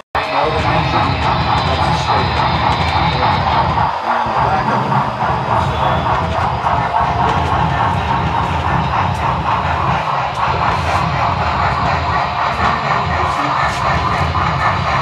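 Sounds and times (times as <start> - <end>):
model trains mechanical drone: 0.2 - 15.0.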